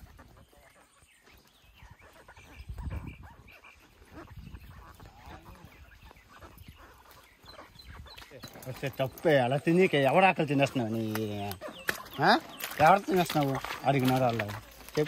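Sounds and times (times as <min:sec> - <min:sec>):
faint animal calls: 0:00.0 - 0:15.0.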